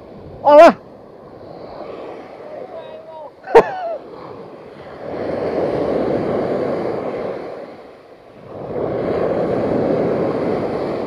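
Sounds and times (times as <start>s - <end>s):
sea surf washing over beach: 0.0s - 11.0s.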